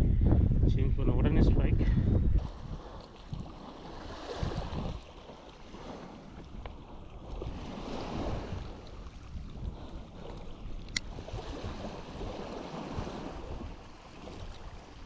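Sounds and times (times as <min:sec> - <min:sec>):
wind buffeting microphone: 0:00.0 - 0:15.0
small waves washing on shore: 0:02.3 - 0:15.0.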